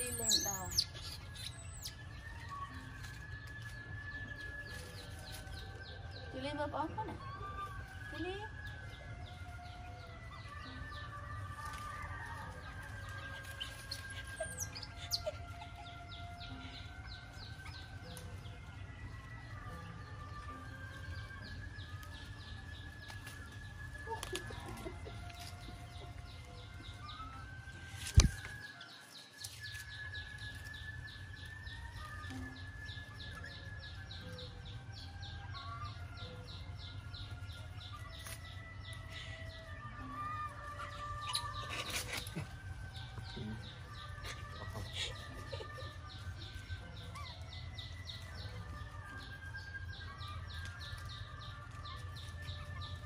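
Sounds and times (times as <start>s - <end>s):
birds calling: 0.0s - 53.0s
chickens calling: 0.0s - 53.0s.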